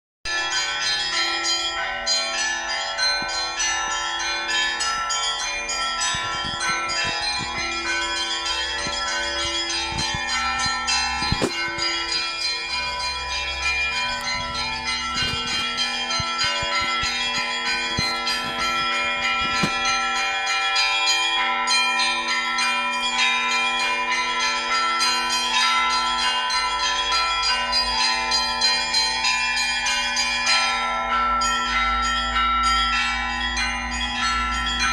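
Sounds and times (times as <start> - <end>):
hum of lower bells: 0.3 - 34.9
small high church bells: 0.3 - 34.9.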